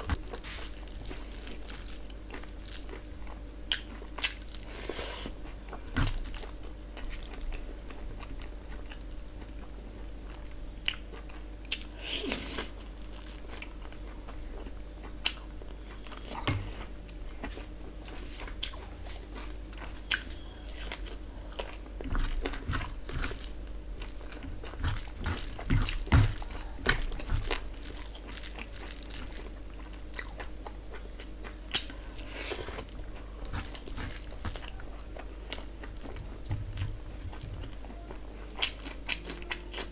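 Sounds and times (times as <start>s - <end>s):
faint steady hum: 0.0s - 39.9s
person chewing food: 0.0s - 39.9s.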